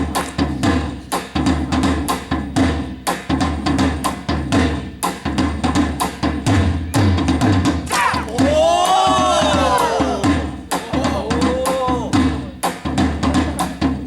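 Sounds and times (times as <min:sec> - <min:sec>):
deep drum tones: 0:00.0 - 0:14.0
percussion ensemble drumming: 0:00.0 - 0:14.0.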